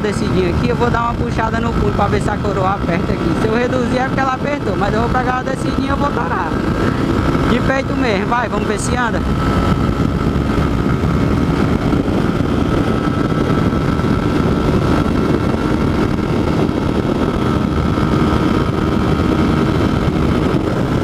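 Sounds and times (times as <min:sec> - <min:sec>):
motorcycle engine drone: 0:00.0 - 0:21.0
rushing wind noise: 0:00.0 - 0:21.0.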